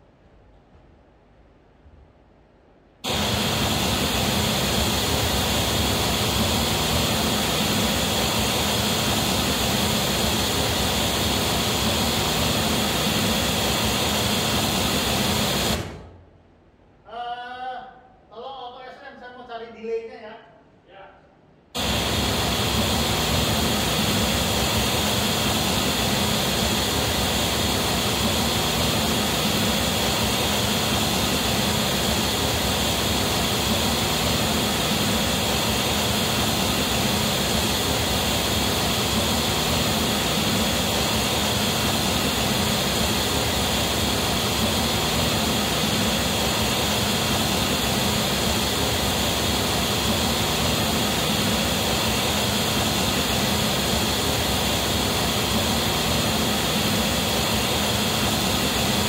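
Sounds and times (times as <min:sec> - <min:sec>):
loud noise test signal: 0:03.0 - 0:16.2, 0:21.8 - 0:59.0.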